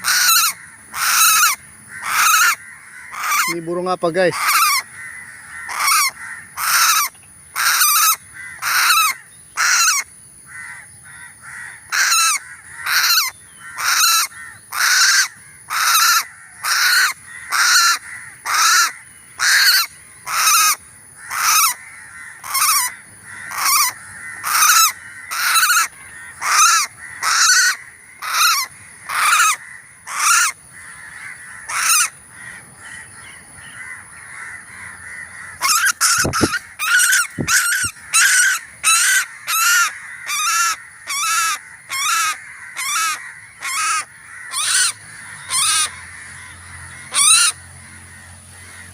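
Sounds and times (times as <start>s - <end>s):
bird giving harsh calls: 0.0s - 48.9s.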